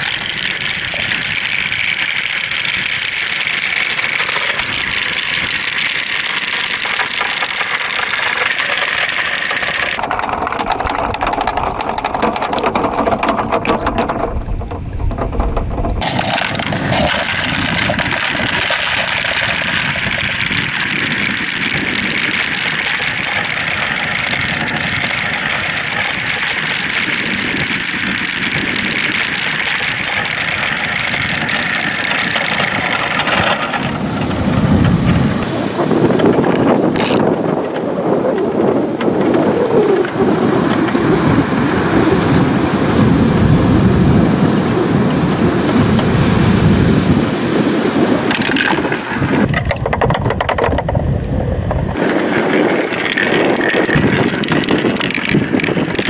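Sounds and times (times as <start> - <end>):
plastic balls rattling down tracks: 0.0 - 43.2, 48.1 - 51.0, 51.9 - 56.0.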